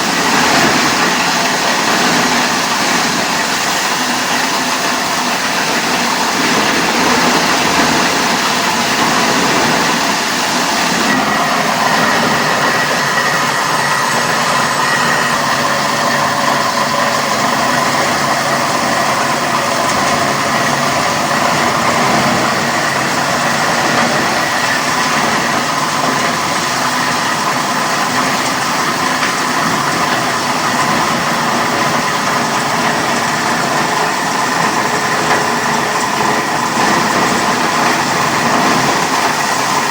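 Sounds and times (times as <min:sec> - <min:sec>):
faint machine whines: 0:00.0 - 0:39.9
industrial machinery running: 0:00.0 - 0:39.9.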